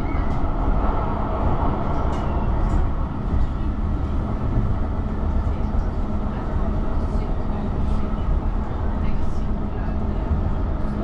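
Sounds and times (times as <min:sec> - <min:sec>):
tram rumbling on track: 0:00.0 - 0:11.0.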